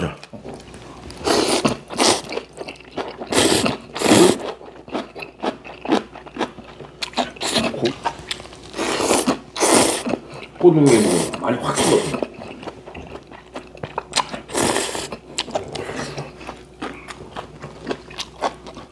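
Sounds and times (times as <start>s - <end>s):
chewing: 0.2s - 10.6s, 11.3s - 18.9s.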